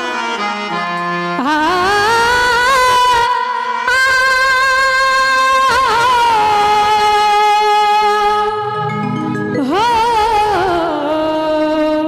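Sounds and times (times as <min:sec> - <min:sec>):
woman singing into microphone: 0:01.4 - 0:12.0.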